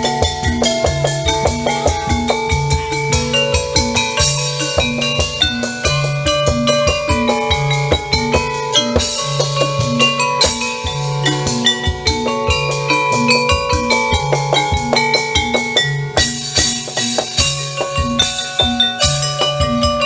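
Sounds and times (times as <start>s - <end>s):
background music with drum beat: 0.0s - 20.0s.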